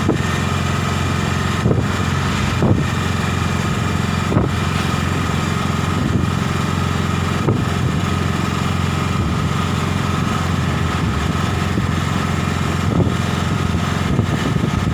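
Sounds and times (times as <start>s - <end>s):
small engine running: 0.0s - 14.9s.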